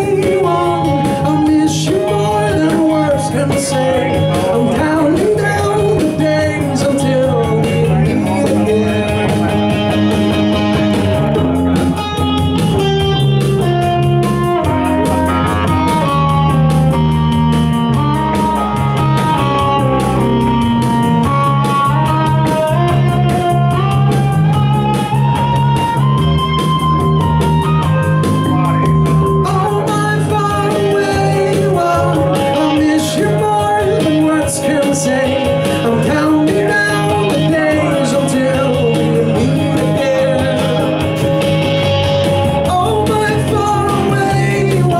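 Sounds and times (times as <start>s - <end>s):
bass line: 0.0s - 44.9s
drum machine beat: 0.0s - 44.9s
melodic lead line: 0.0s - 44.9s.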